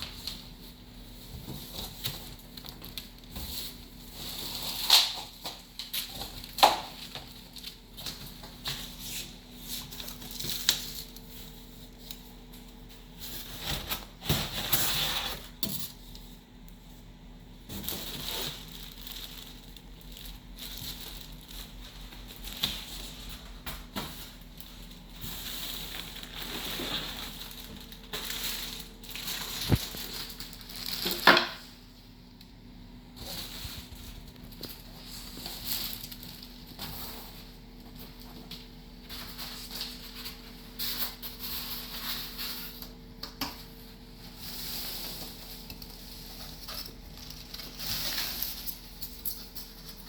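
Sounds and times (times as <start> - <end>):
packaging rustling and crinkling: 0.0 - 15.6, 17.6 - 31.9, 33.1 - 50.0
faint steady hum: 0.0 - 50.0.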